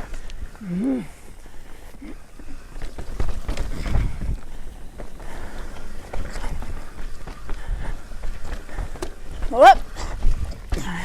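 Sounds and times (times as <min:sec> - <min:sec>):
bike rattling over bumps: 0:00.0 - 0:11.0
bike tyre and wind rumble: 0:00.0 - 0:11.0.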